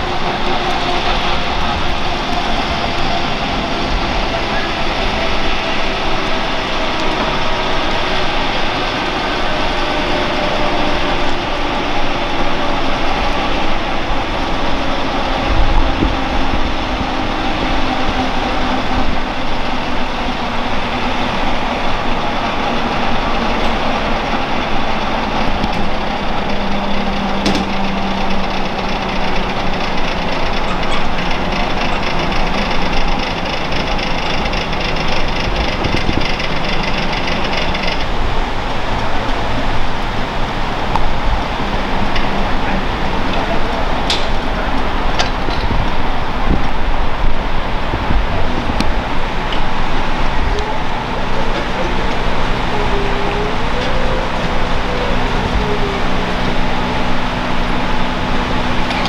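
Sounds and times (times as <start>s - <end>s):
helicopter rotor rushing: 0.0s - 59.0s
turbine whine: 0.0s - 59.0s.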